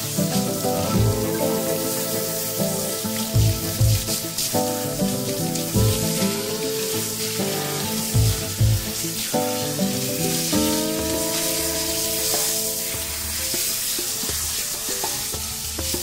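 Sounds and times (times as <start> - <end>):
background music with bass beat: 0.0 - 13.5
shower head spraying water: 0.0 - 16.0.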